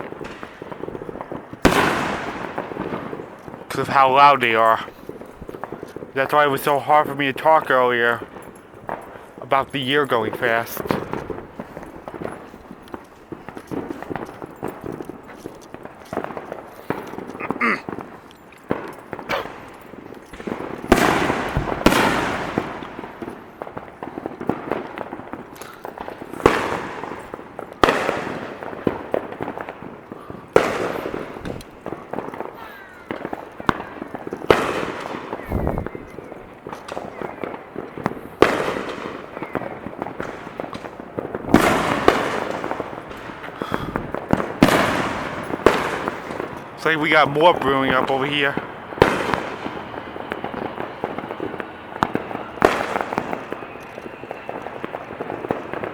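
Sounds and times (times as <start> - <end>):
fireworks exploding: 0.0 - 55.9.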